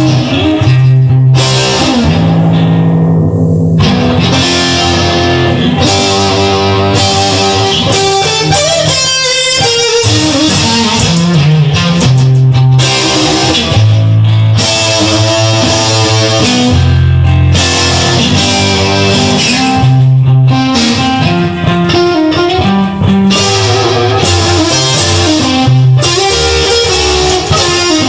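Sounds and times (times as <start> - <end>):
bass guitar: 0.0 - 28.0
electric guitar chords: 0.0 - 28.0.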